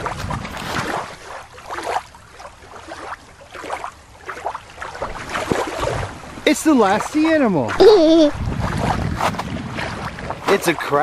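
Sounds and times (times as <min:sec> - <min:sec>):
water lapping at shore: 0:00.0 - 0:11.0.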